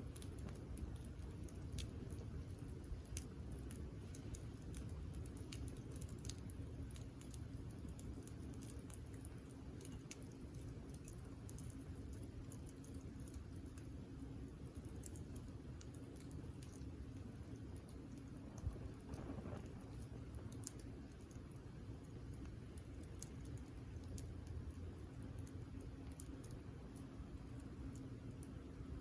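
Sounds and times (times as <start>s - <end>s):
campfire crackling and popping: 0.0s - 29.0s
low rumble of flames: 0.0s - 29.0s.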